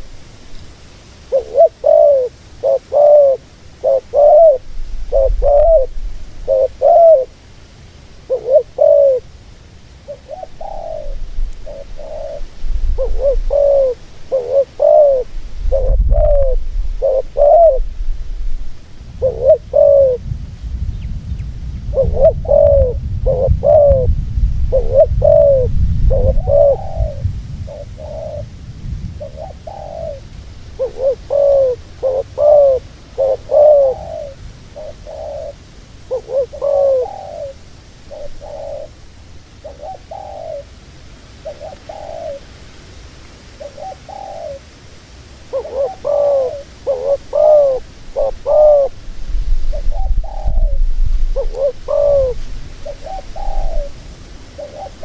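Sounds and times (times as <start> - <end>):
dove cooing: 1.3 - 7.5, 8.2 - 9.4, 10.0 - 20.3, 21.0 - 28.5, 29.2 - 40.8, 41.4 - 42.6, 43.5 - 44.7, 45.4 - 55.0.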